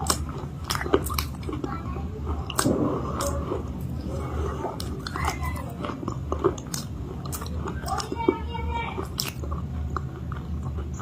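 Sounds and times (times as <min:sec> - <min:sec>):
crunchy chewing: 0:00.0 - 0:11.0
soft squishy chewing: 0:00.0 - 0:11.0.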